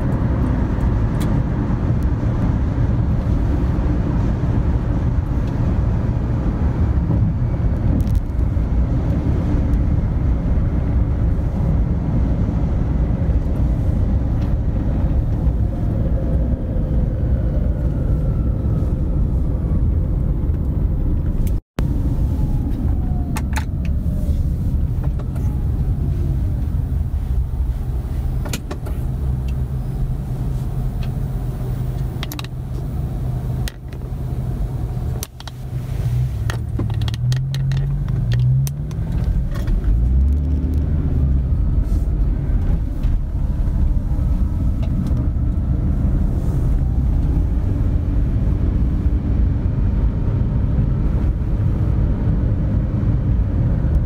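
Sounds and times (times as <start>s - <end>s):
car road and engine rumble: 0.0s - 54.0s
car slowing whine: 0.0s - 54.0s.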